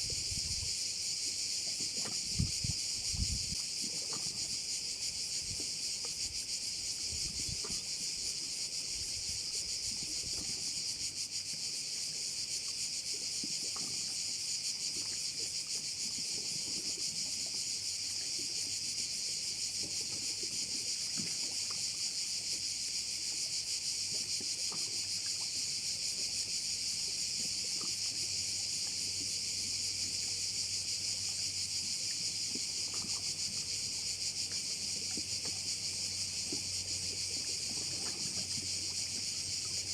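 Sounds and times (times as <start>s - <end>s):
crickets chirping chorus: 0.0s - 39.9s.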